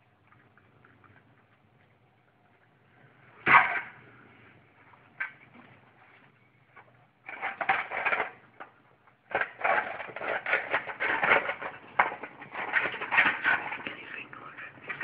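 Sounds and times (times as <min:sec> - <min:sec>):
badgers crunching food: 0:00.0 - 0:15.0.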